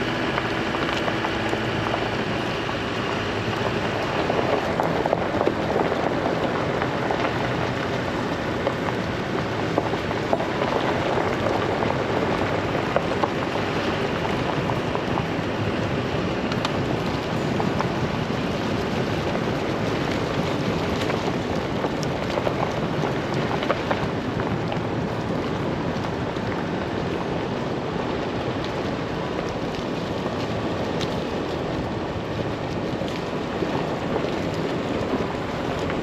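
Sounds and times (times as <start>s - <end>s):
road and tyre rumble: 0.0s - 36.0s.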